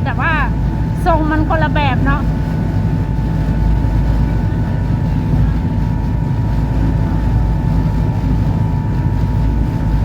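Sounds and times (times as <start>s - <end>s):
ferry low rumble: 0.0s - 10.0s.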